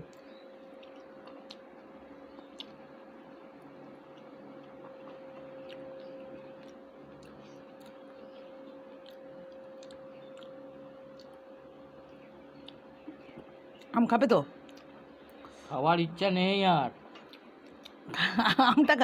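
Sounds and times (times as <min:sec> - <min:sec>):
chewing and small clicks: 0:00.0 - 0:14.0, 0:14.6 - 0:15.6, 0:17.0 - 0:18.1
steady hum: 0:00.0 - 0:19.0.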